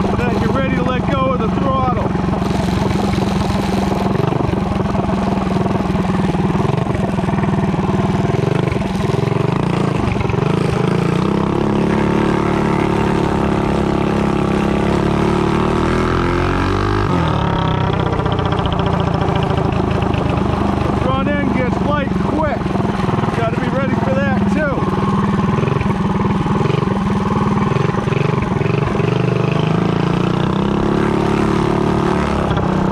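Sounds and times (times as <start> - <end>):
small engine running and revving: 0.0 - 32.9.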